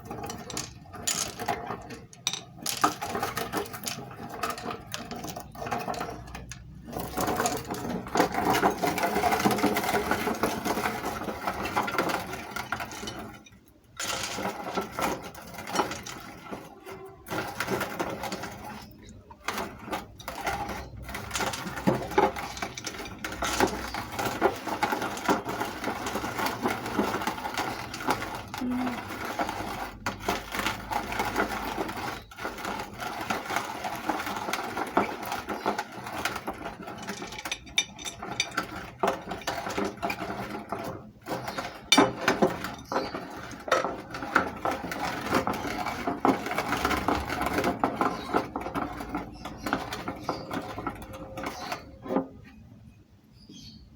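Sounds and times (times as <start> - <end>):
meat grinder crunching candy: 0.0 - 52.0.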